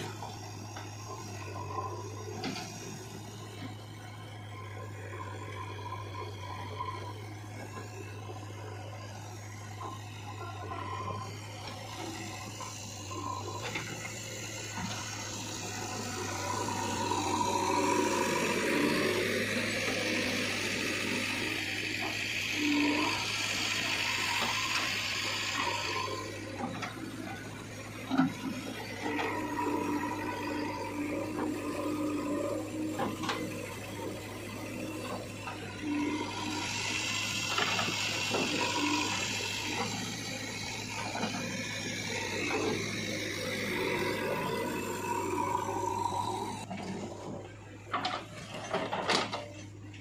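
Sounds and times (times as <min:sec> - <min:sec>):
backhoe engine hum: 0:00.0 - 0:50.0.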